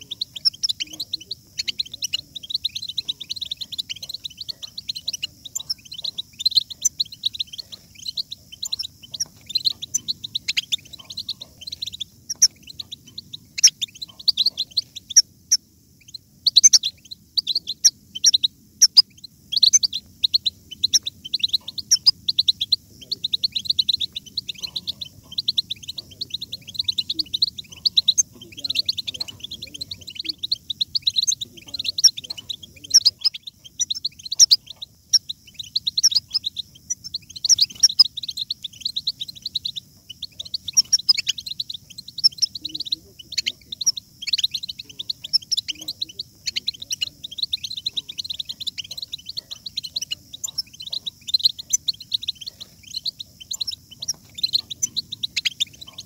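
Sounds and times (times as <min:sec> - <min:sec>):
finches twittering: 0:00.0 - 0:56.0.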